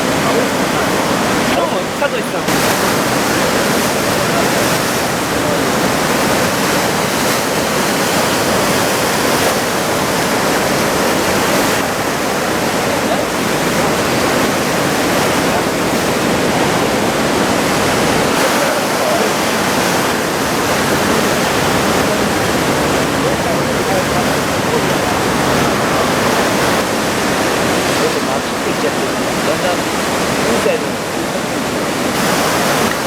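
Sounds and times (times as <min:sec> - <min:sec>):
heavy ocean surf breaking: 0:00.0 - 0:33.0.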